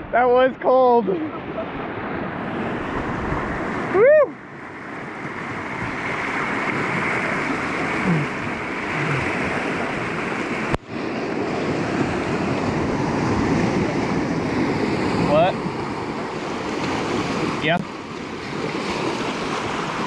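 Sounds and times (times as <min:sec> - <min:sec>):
whitewater rushing: 0:00.0 - 0:20.0
wind on microphone: 0:01.4 - 0:04.3, 0:05.0 - 0:20.0.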